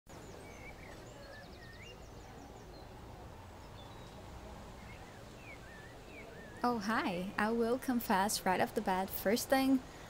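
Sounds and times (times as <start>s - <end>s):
birds chirping and trilling: 0.1s - 9.4s.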